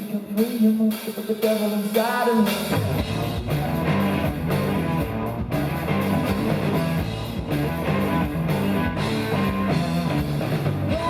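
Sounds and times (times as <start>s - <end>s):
steady drum beat: 0.0s - 11.0s
electric guitar: 0.9s - 11.0s
live rock band playing: 0.9s - 11.0s.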